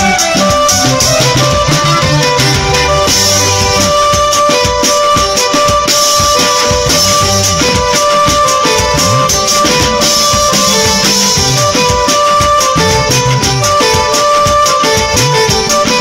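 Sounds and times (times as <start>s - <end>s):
loud music with steady beat: 0.0s - 16.0s.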